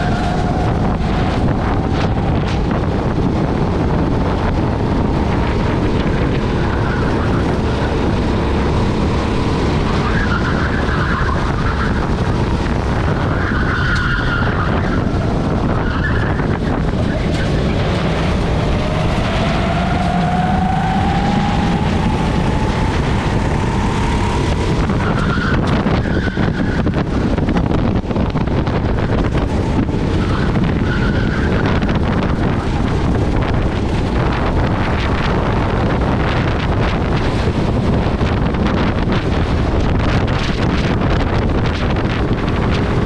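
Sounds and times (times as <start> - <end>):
kart engine racing: 0.0 - 43.0
wind buffeting microphone: 0.0 - 43.0.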